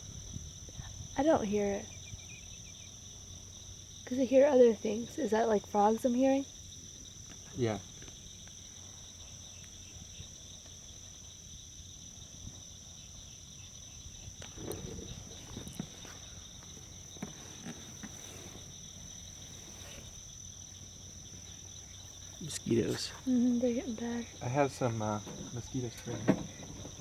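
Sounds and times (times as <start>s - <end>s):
chorus of frogs and insects: 0.0s - 27.0s.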